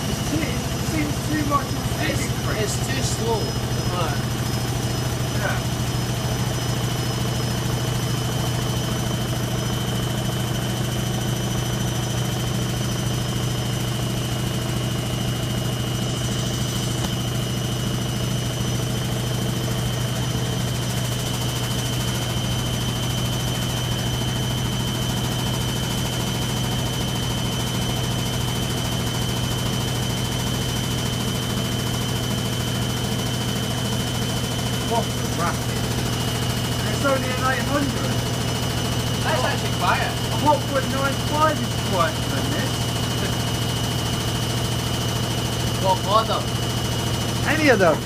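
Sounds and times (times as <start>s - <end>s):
washing machine spinning: 0.0s - 48.0s.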